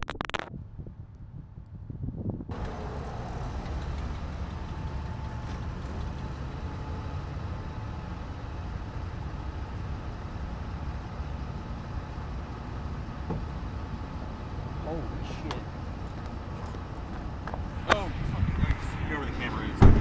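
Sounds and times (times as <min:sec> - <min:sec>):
low outdoor background rumble: 0:00.0 - 0:20.0.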